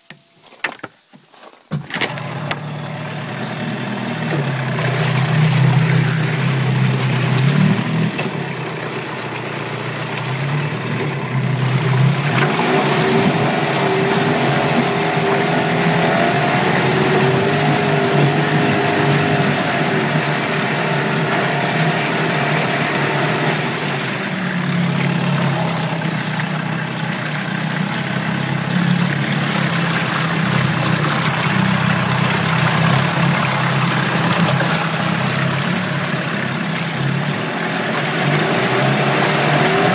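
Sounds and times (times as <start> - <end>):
outboard motor running: 1.7 - 39.9
propeller churning water: 1.7 - 39.9.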